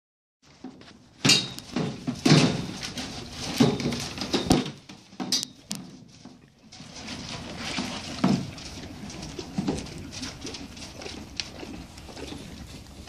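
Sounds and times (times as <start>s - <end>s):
horse crunching feed: 0.4s - 13.0s.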